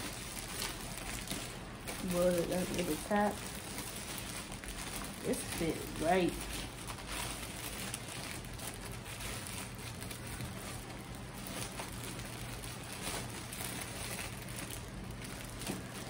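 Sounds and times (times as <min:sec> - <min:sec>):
plastic bag crinkling: 0:00.0 - 0:16.0
steady low hum: 0:00.0 - 0:16.0.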